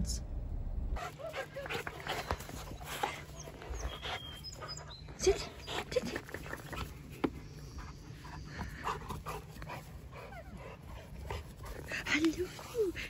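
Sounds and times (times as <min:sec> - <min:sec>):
low hum: 0:00.0 - 0:13.0
dog whining and panting: 0:01.0 - 0:13.0.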